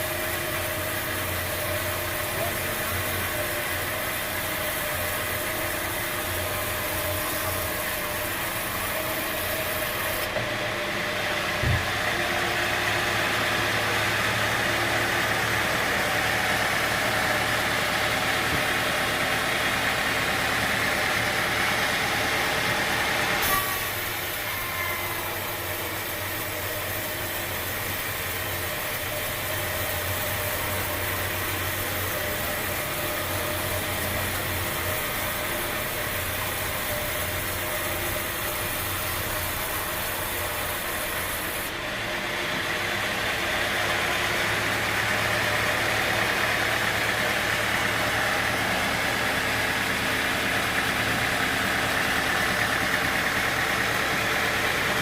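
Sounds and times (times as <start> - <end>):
machinery engine humming: 0.0 - 55.0.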